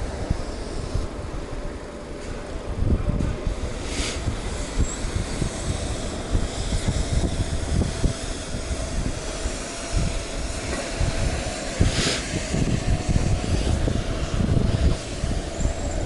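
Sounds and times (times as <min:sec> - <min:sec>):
faint steady whine: 0:00.0 - 0:16.0
wind buffeting microphone: 0:00.0 - 0:16.0.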